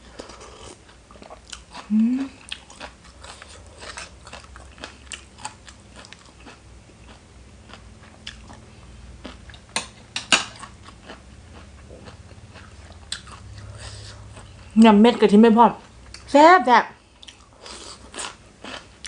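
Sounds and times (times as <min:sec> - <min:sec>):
person chewing crunchy food: 0:00.0 - 0:14.8, 0:17.0 - 0:19.0.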